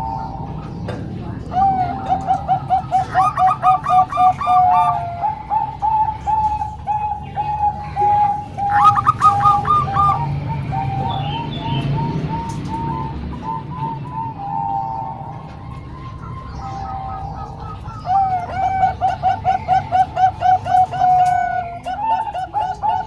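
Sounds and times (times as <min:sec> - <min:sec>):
doves cooing: 0:00.0 - 0:23.0.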